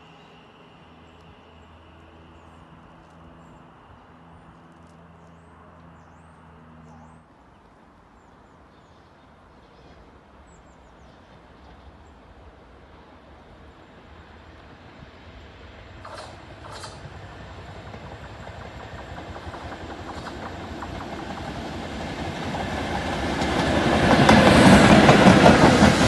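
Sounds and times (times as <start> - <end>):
distant train hum: 0.0 - 26.0.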